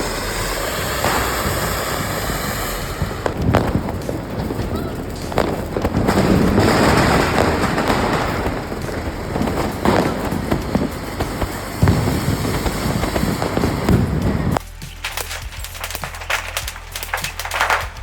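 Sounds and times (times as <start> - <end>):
firecrackers crackling: 0.0 - 18.0
firework bangs: 0.0 - 18.0.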